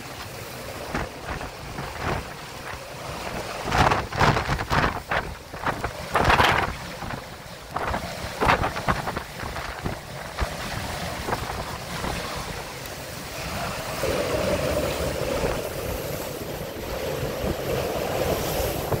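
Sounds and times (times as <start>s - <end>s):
steady wind howl: 0.0s - 19.0s
waves rushing: 0.0s - 19.0s
wind buffeting microphone: 0.0s - 19.0s.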